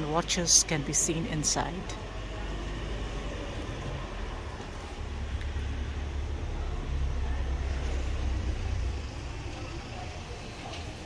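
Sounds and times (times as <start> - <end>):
low steady rumble: 0.0 - 10.6
outdoor background noise: 0.0 - 11.0.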